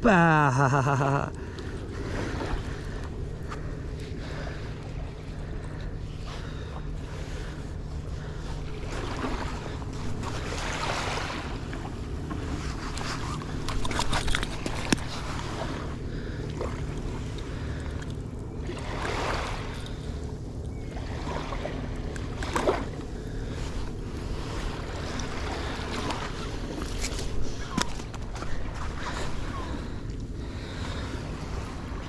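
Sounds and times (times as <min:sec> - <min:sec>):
water splashing and lapping: 0:00.0 - 0:32.0.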